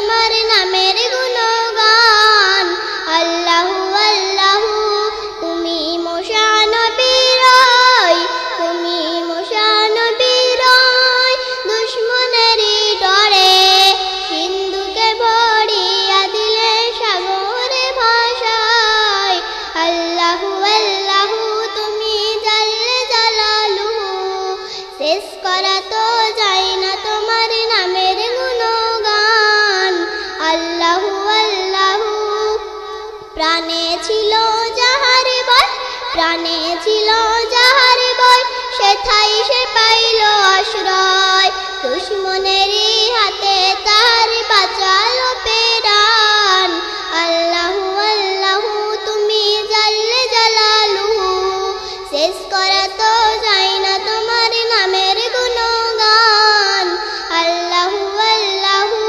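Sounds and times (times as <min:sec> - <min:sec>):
girl singing devotional song: 0:00.0 - 0:59.0.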